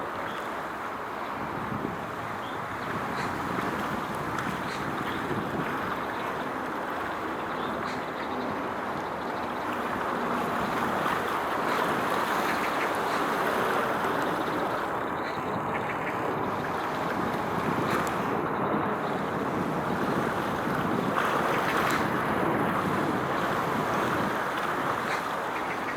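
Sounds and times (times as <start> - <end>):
wind rushing on microphone: 0.0 - 25.9.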